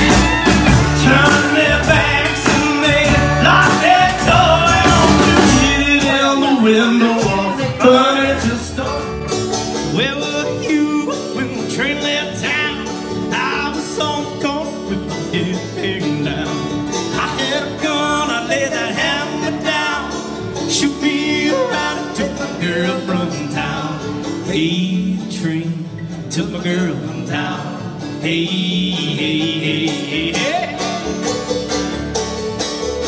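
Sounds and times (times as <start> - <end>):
man singing: 0.0 - 31.2
country band music: 0.0 - 33.0
guitar: 0.0 - 33.0.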